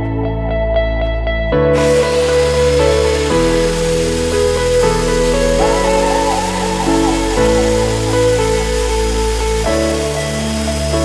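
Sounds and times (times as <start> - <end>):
sustained background music chords: 0.0 - 11.0
wavering melody line: 1.8 - 11.0.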